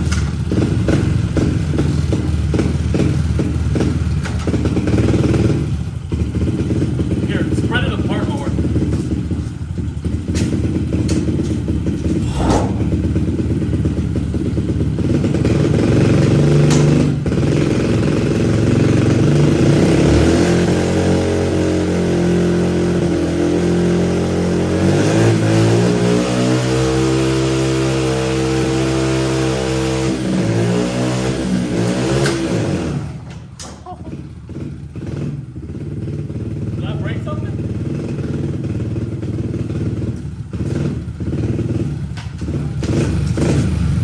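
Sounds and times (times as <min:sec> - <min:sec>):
pit bike engine revving: 0:00.0 - 0:33.2, 0:33.8 - 0:44.0.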